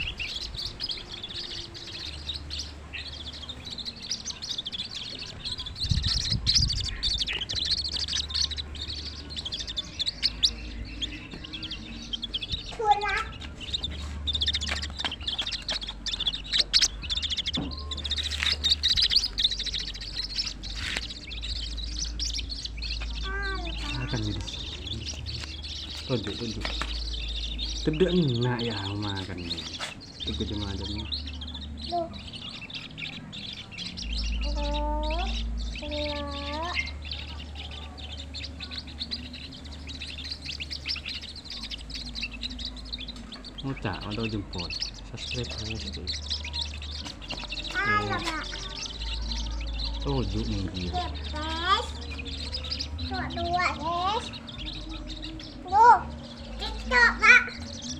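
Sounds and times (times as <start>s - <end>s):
small birds chirping: 0.0s - 57.9s
steady low hum: 0.0s - 57.9s.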